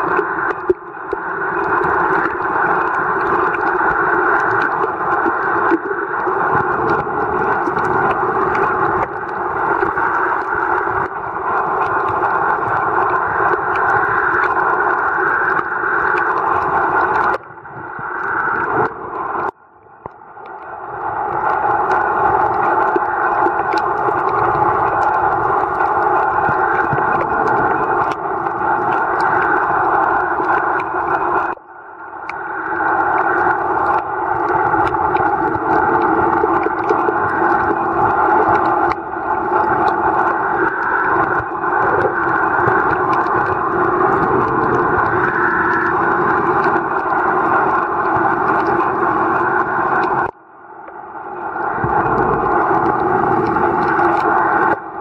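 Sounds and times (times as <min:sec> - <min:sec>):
muffled underwater rushing: 0:00.0 - 0:55.0.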